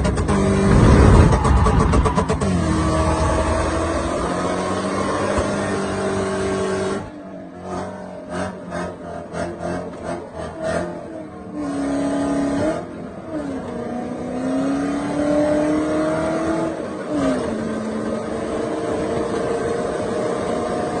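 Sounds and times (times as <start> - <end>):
car engine under throttle: 0.0 - 21.0.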